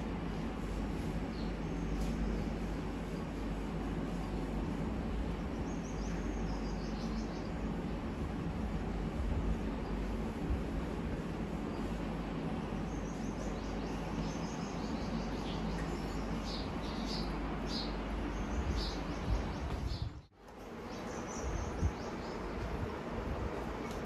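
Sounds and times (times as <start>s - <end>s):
outdoor rumble and hiss: 0.0s - 24.0s.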